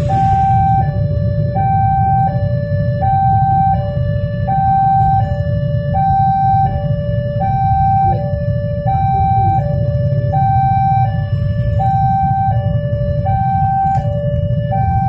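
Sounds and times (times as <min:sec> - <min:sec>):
engines idling: 0:00.0 - 0:15.0
two-tone crossing alarm: 0:00.0 - 0:15.0.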